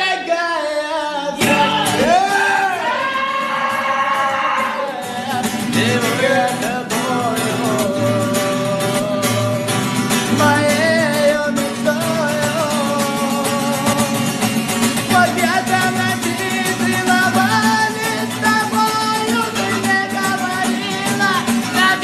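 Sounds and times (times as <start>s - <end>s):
person singing: 0.0s - 22.0s
strummed guitar: 0.0s - 22.0s.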